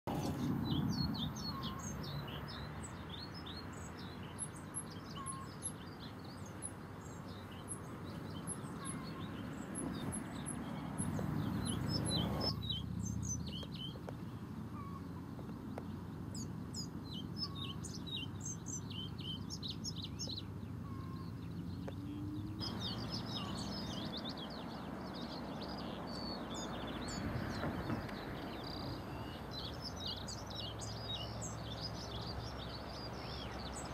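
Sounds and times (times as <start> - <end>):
bird singing: 0.1 - 33.9.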